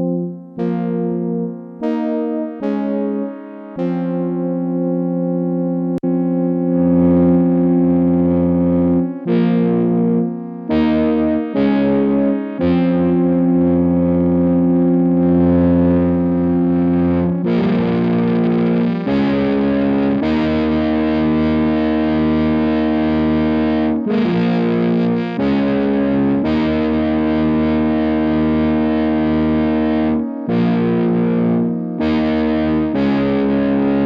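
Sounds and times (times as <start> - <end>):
synthesizer playing held chords: 0.0 - 34.0.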